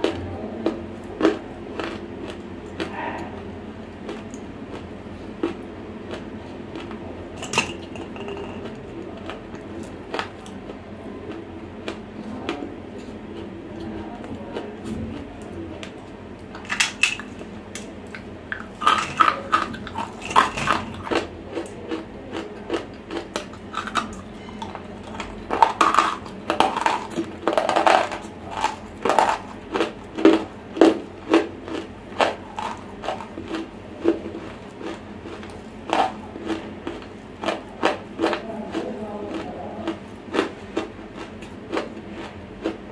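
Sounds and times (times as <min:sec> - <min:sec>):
dry crunching and chewing: 0:00.0 - 0:42.9.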